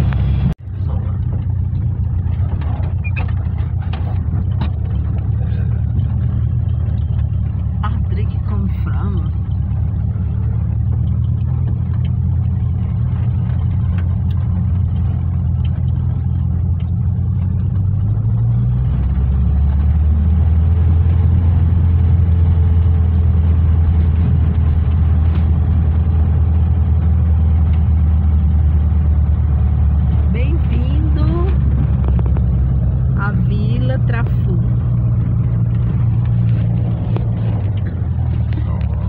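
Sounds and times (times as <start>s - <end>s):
van engine drone: 0.0s - 39.0s.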